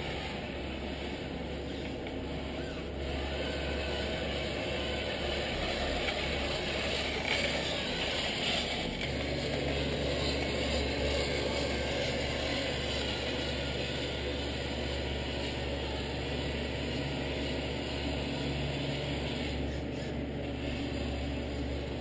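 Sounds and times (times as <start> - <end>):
toy truck mechanical hum: 0.0 - 22.0.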